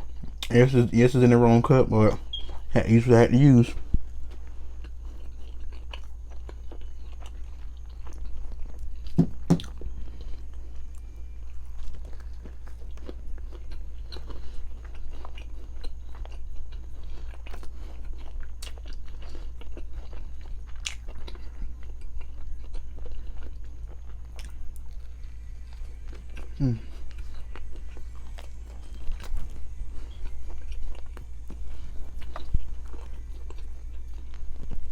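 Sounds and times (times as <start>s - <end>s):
chewing and biting food: 0.0s - 34.9s
steady low hum: 0.0s - 34.9s.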